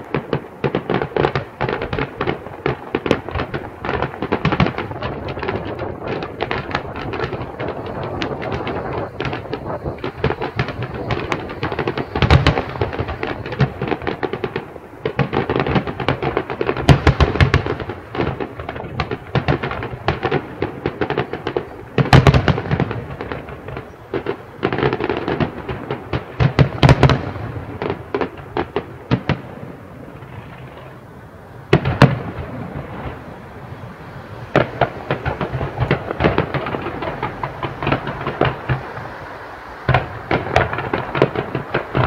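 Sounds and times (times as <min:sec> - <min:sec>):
fireworks bangs: 0:00.0 - 0:42.0
fireworks crackling and popping: 0:00.0 - 0:42.0.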